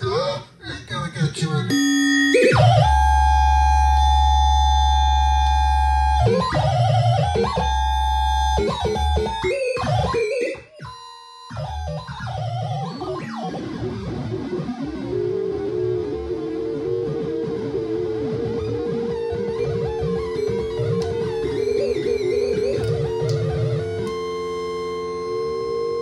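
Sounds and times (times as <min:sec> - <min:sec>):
electronic synthesizer tones: 0:01.7 - 0:26.0.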